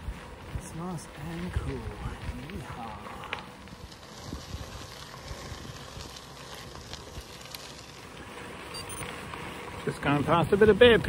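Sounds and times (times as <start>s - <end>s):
bicycle tyres rolling on gravel: 0.0s - 11.0s.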